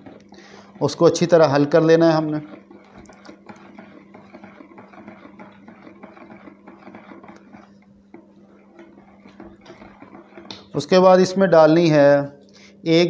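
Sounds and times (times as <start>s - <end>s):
metal spoon stirring in plastic bowl: 0.0s - 11.9s
steady low hum: 0.0s - 13.0s.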